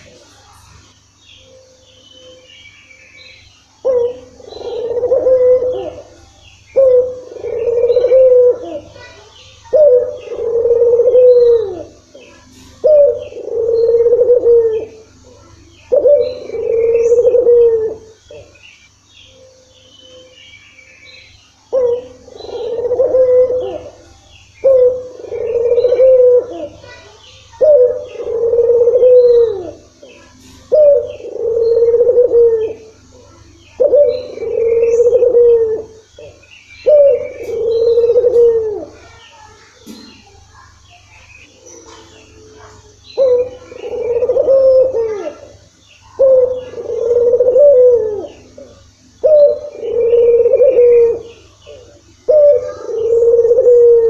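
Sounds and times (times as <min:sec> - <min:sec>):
small birds chirping: 0:00.0 - 0:54.0
dove cooing: 0:03.8 - 0:18.6, 0:21.6 - 0:54.0.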